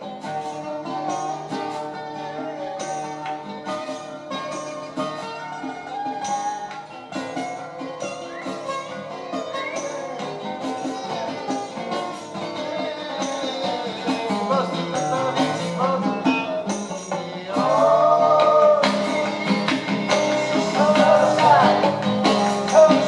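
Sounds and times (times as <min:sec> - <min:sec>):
strummed acoustic guitars: 0:00.0 - 0:23.0
tambourine: 0:00.0 - 0:23.0.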